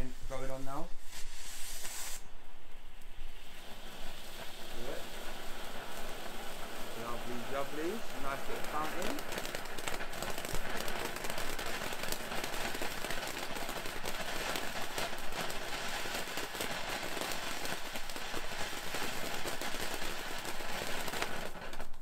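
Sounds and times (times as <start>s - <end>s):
firework fountain hissing and crackling: 0.0s - 22.0s.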